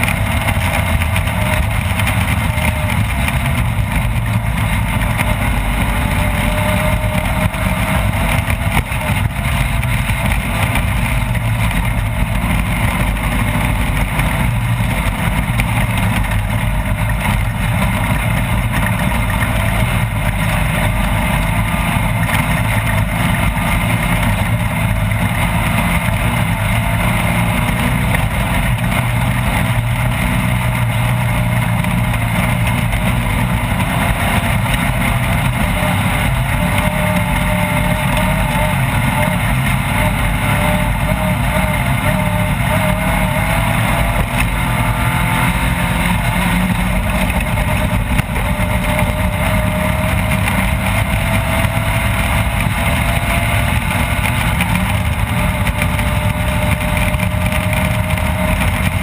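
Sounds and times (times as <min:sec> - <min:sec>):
off-road vehicle engine droning: 0:00.0 - 0:59.0.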